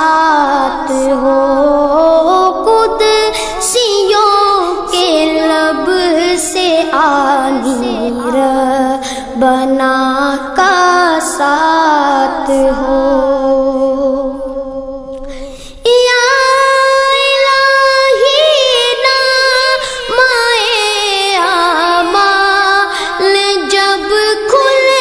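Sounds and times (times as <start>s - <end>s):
person singing devotional song: 0.0s - 25.0s.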